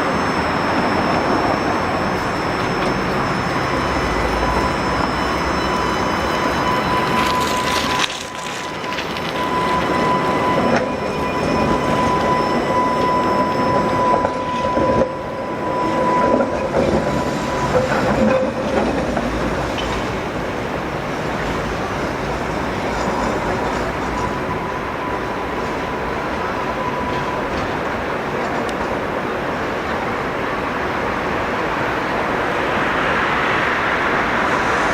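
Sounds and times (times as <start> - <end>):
high-pitched whine: 0.0 - 34.9
tram running on rails: 0.0 - 34.9.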